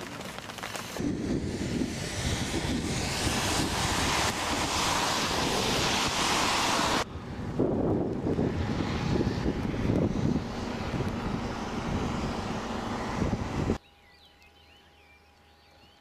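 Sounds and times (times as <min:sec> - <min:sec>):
storm wind buffeting microphone: 0:00.9 - 0:13.8.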